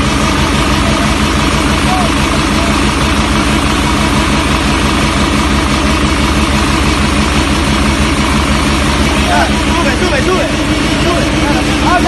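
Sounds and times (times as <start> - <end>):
machine engine droning: 0.0 - 12.0.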